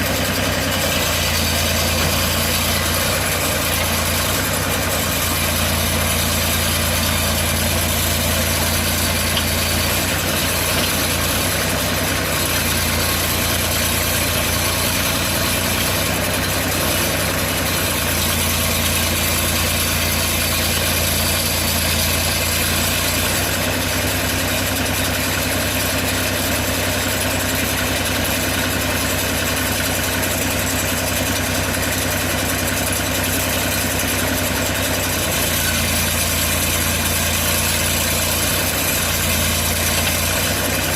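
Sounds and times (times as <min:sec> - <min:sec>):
sawmill engine humming: 0:00.0 - 0:40.9.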